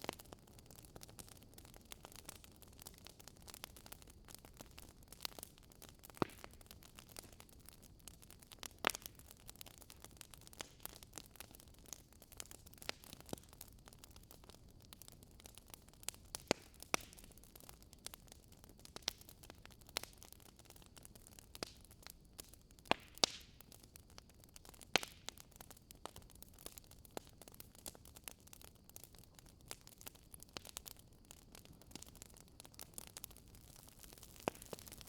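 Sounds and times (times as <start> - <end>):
burning logs popping: 0.0 - 35.0
wood fire crackling: 0.0 - 35.0.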